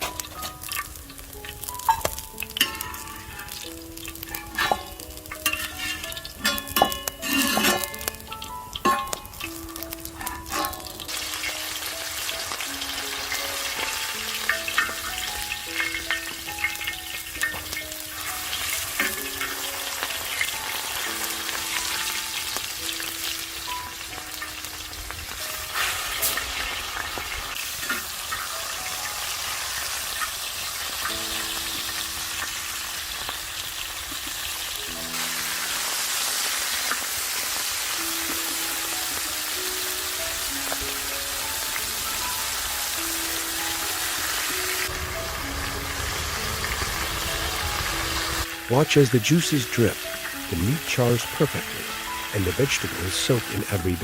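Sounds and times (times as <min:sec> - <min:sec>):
beef sizzling on a griddle: 0:00.0 - 0:54.0
soft melodic background music: 0:00.0 - 0:54.0.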